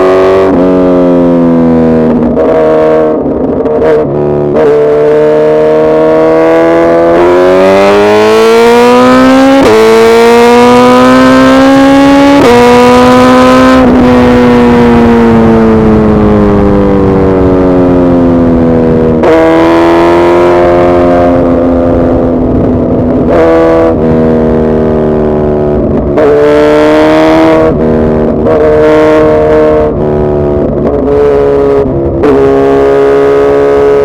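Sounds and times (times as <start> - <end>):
motorcycle engine revving hard: 0.0 - 34.0.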